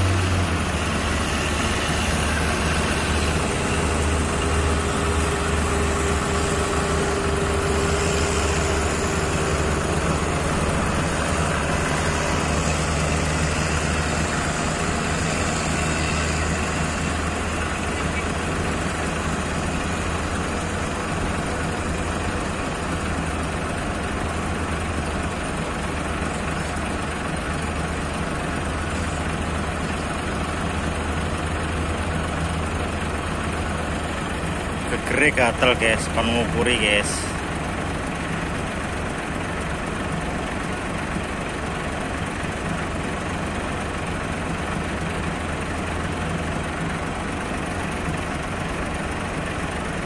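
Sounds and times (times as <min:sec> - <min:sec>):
diesel engines idling: 0:00.0 - 0:50.0.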